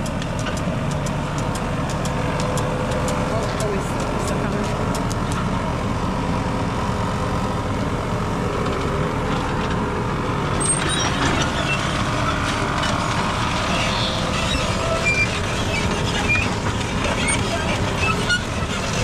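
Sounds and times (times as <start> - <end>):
tractor engine rumbling: 0.0 - 19.0.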